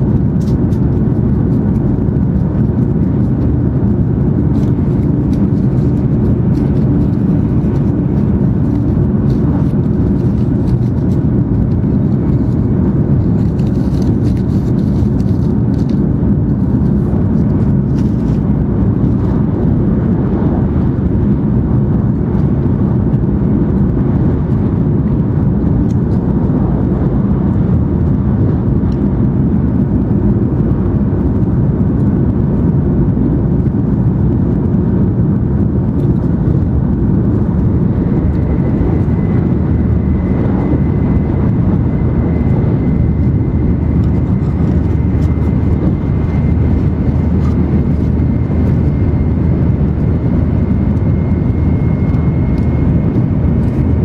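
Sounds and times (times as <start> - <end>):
train cabin low rumble: 0.0 - 54.0.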